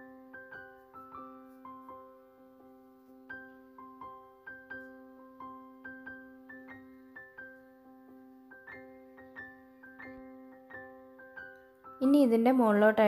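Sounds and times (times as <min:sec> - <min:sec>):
soft piano notes: 0:00.0 - 0:13.0.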